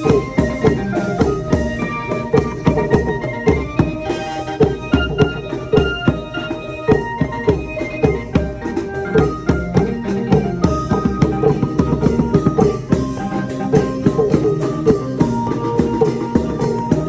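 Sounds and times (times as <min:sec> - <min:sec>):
long drum ensemble playing: 0:00.0 - 0:17.0
pitched melody notes: 0:00.0 - 0:17.0.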